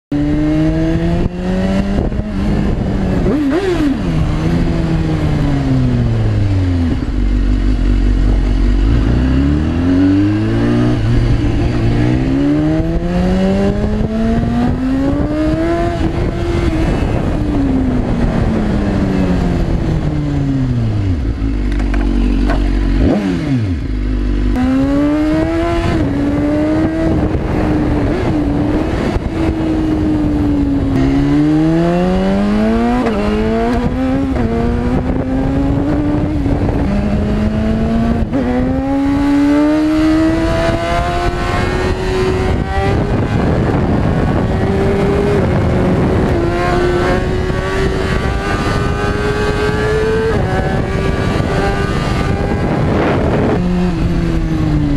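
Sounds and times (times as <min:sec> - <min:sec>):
motorcycle engine revving: 0:00.1 - 0:54.9.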